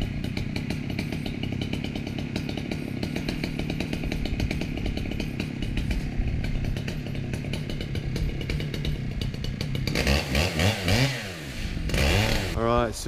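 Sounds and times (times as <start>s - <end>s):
chainsaw cutting log: 0.0s - 12.7s.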